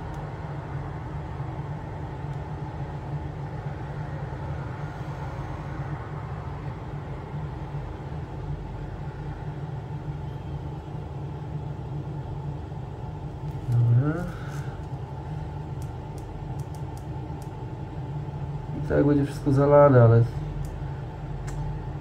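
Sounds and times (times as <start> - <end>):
low background hum and rumble: 0.0 - 22.0.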